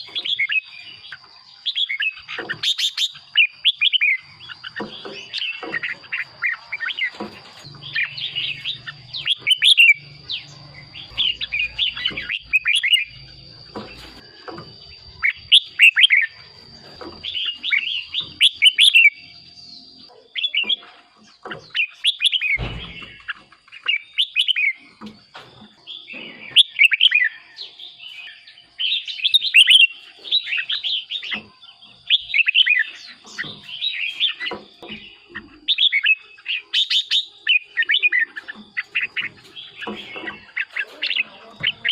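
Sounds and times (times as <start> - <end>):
bird singing warbled phrases: 0.0 - 41.9.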